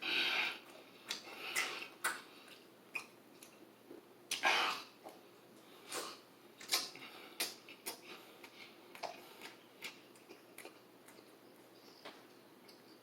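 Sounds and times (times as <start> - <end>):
person chewing food: 0.1 - 13.0.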